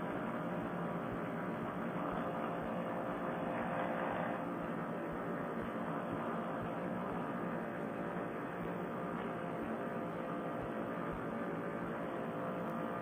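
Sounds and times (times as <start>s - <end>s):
muffled engine and propeller drone: 0.0s - 13.0s.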